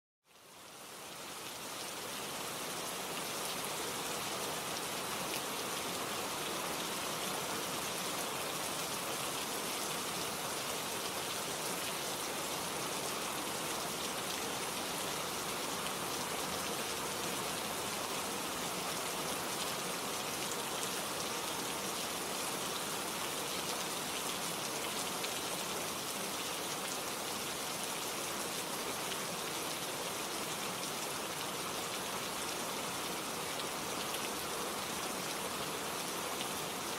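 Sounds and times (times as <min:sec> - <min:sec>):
steady rain pattering: 0:00.2 - 0:36.9.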